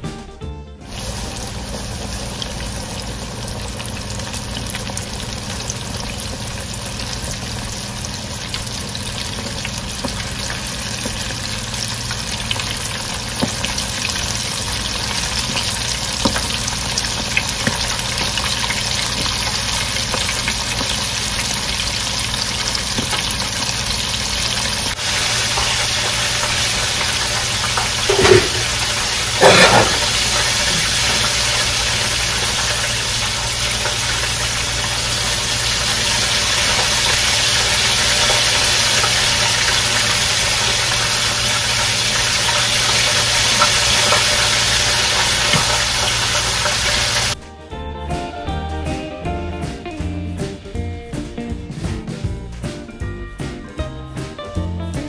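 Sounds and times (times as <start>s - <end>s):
oil bubbling and sizzling: 0.9s - 47.4s.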